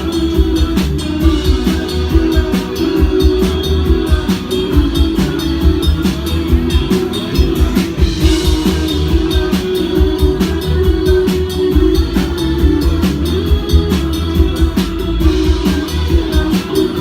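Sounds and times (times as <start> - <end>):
bass line: 0.0 - 17.0
drum kit hits: 0.0 - 17.0
electric guitar: 0.0 - 17.0.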